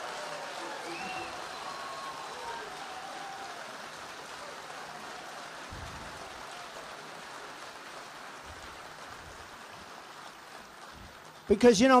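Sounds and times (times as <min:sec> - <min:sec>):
crowd applause: 0:00.0 - 0:12.0.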